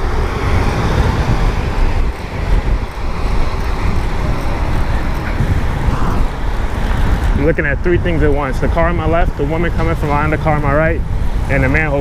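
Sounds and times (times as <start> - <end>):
road traffic: 0.0 - 12.0
wind on microphone: 0.0 - 12.0.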